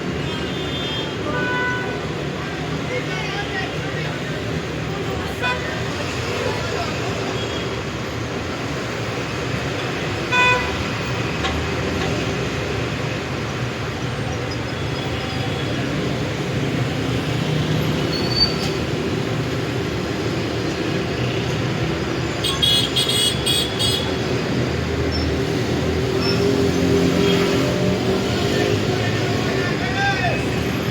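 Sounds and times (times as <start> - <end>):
passing cars: 0.0 - 30.9.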